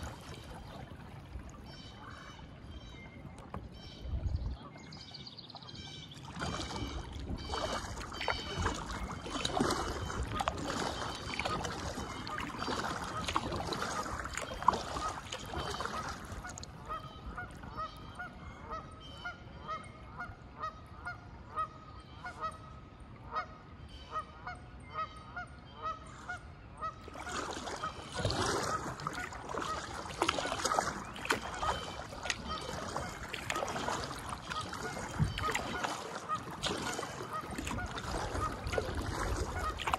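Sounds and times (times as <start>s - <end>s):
paddle strokes splashing: 0.0s - 22.6s, 26.1s - 39.9s.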